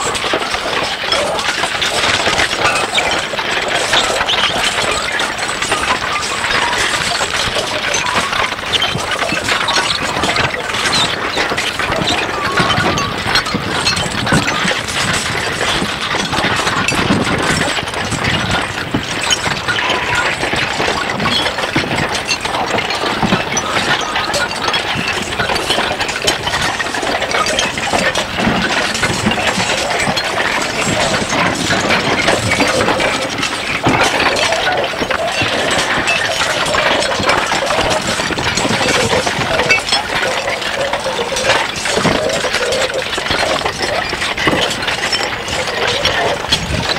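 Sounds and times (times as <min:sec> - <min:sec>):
rapid small clicks and clinks: 0:00.0 - 0:46.9.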